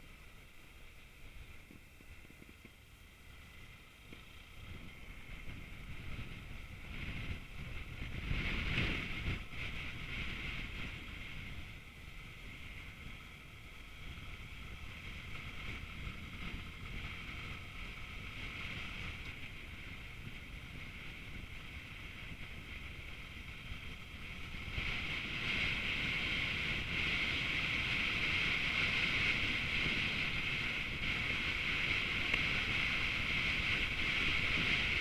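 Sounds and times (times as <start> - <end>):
road noise: 0.0 - 35.0
wind buffeting microphone: 1.1 - 35.0.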